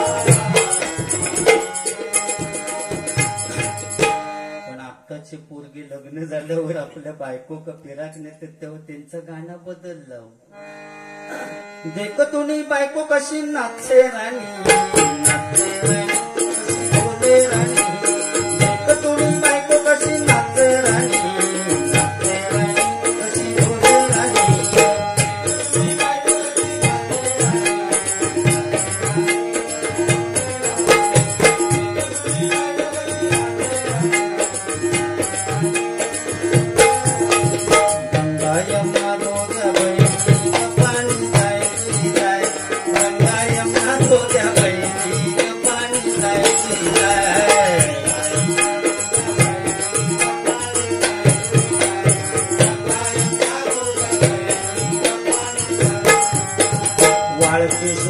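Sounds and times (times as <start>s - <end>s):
harmonium melody: 0.0s - 5.6s, 10.4s - 58.0s.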